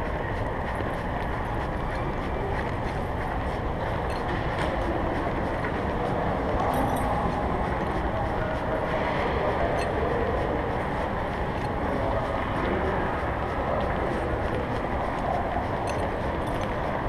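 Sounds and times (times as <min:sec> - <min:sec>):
mall concourse background noise: 0:00.0 - 0:17.0.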